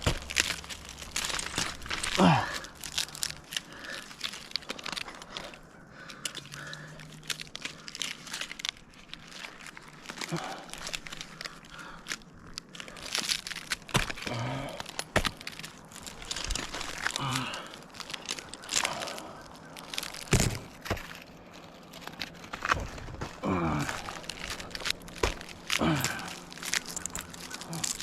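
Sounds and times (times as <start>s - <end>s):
climbing spurs scraping tree bark: 0.0s - 28.0s.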